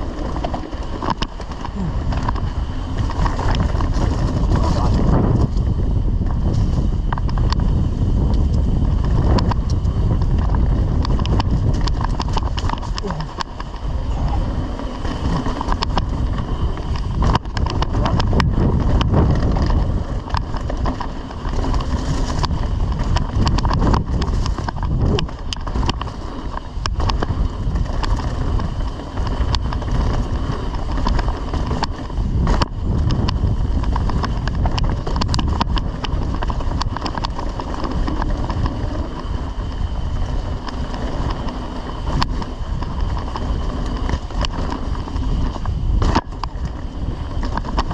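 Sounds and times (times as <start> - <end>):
bike knocking and rattling: 0.0 - 47.9
bike tyres rolling over dirt: 0.0 - 47.9
wind on microphone: 0.0 - 47.9.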